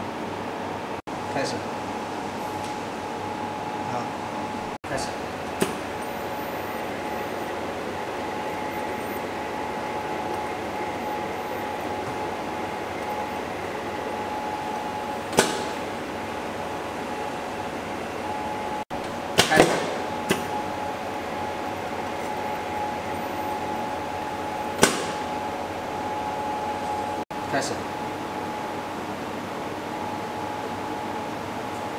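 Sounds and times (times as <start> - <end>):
ultrasonic welding machine humming: 0.0 - 31.9.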